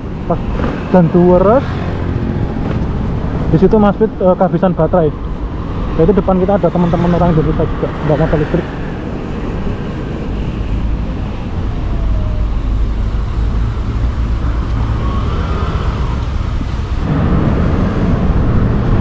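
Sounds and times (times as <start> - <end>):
road and traffic noise: 0.0 - 19.0
wind rushing over microphone: 0.0 - 19.0.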